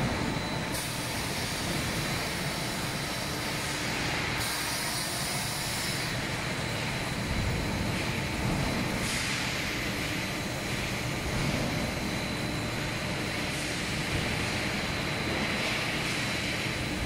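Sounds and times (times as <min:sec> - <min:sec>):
machine line rumble and hiss: 0:00.0 - 0:17.0.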